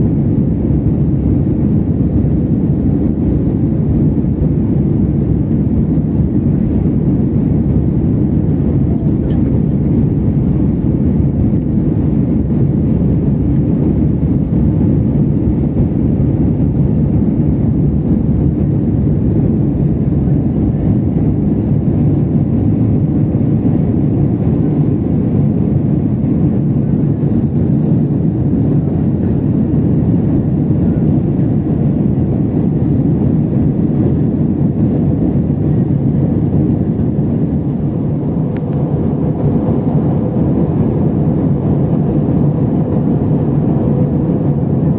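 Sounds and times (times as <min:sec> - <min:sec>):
jet engine and airflow noise: 0:00.0 - 0:44.9.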